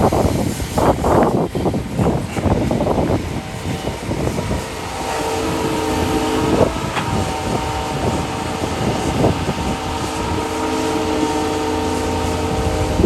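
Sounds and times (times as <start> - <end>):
heavy diesel machinery engines: 0.0 - 13.0.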